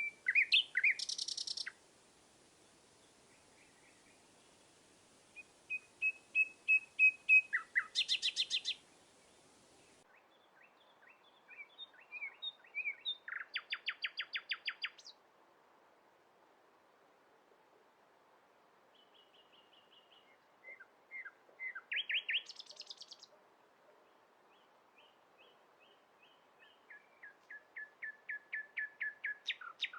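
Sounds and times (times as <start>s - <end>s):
songbirds singing chirps and trills: 0.0s - 15.2s, 18.8s - 29.9s.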